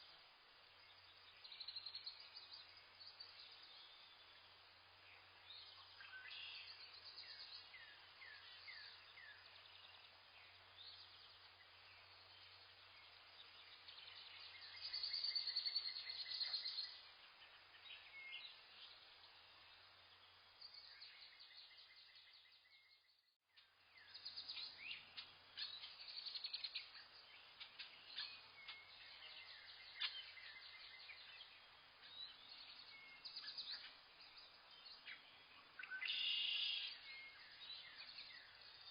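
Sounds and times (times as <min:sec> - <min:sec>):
faint hiss: 0:00.0 - 0:22.8, 0:23.5 - 0:38.9
small birds chirping and trilling: 0:00.8 - 0:38.9.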